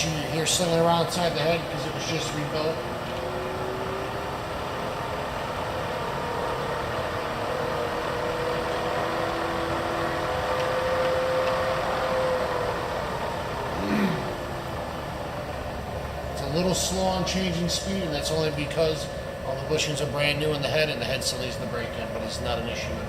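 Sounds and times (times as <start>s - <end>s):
milling machine whine: 0.0s - 23.0s.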